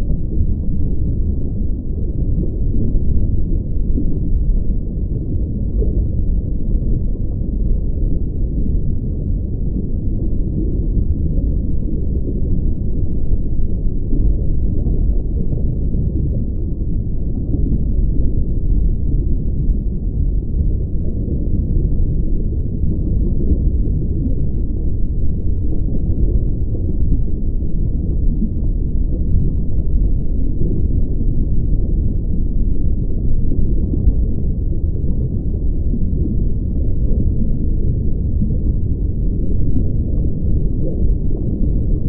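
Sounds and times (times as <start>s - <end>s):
low rumbling noise: 0.0s - 42.0s.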